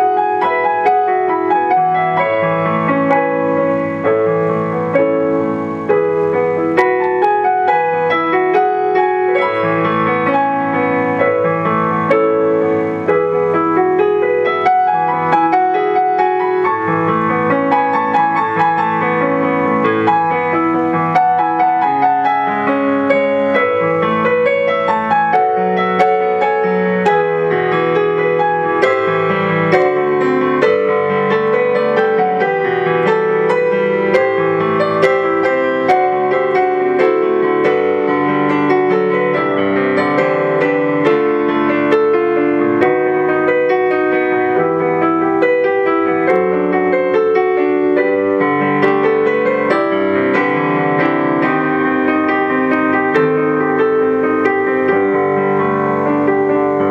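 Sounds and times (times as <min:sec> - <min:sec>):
solo piano music: 0:00.0 - 0:56.9.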